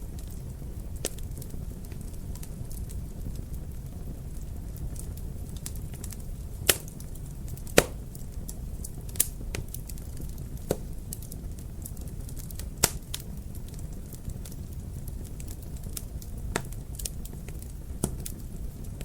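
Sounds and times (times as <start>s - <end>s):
wood fire crackling in fireplace: 0.0s - 19.0s.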